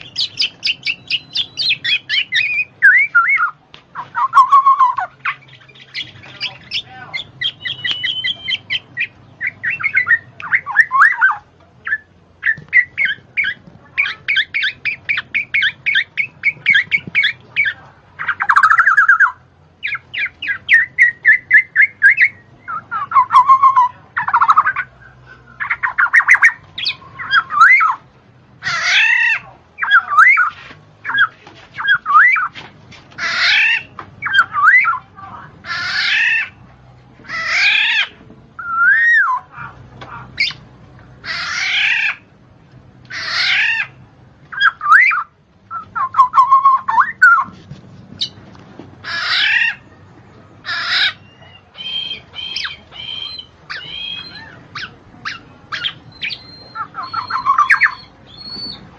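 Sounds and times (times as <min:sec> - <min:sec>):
bird calling: 0:00.0 - 0:36.6, 0:37.2 - 0:40.6, 0:41.2 - 0:42.3, 0:43.1 - 0:47.6, 0:49.0 - 0:50.0, 0:50.6 - 0:58.9.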